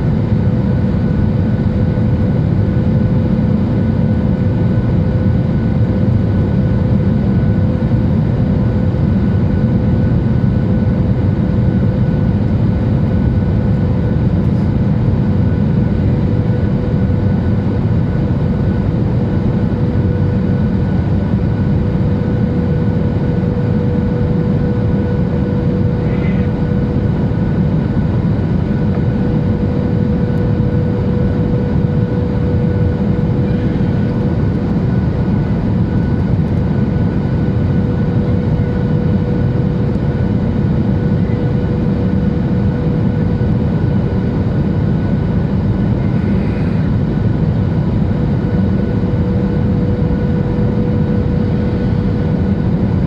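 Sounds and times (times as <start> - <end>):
airplane cabin roar: 0.0 - 53.0
steady hum: 0.0 - 53.0.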